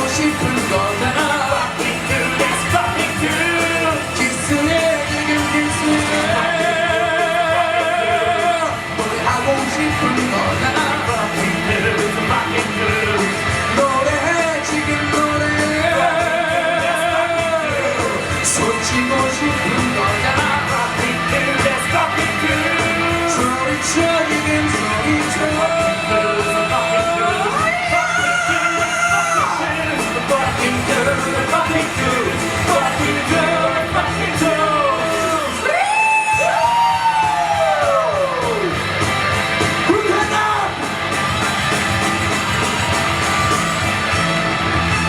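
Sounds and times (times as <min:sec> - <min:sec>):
person singing: 0:00.0 - 0:38.8
rock band playing: 0:00.0 - 0:45.0.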